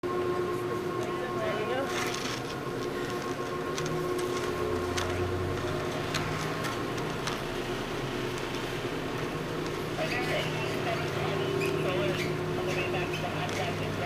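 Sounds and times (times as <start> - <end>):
chairlift machinery hum: 0.0 - 14.0.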